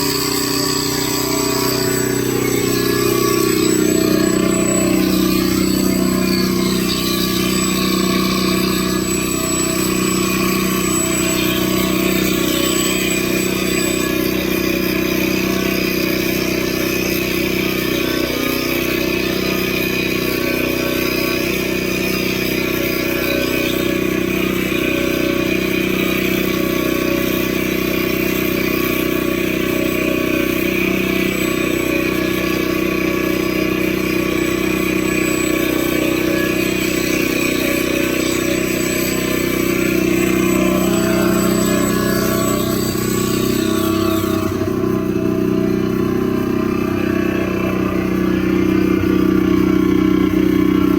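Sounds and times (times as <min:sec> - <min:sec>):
pulsing motor hum: 0:00.0 - 0:50.9.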